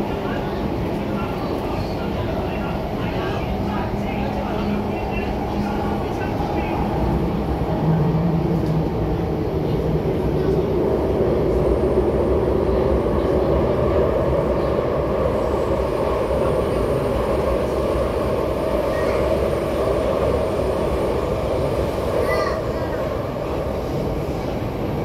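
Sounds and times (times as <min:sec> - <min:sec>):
train wheels and air rumble: 0:00.0 - 0:25.0.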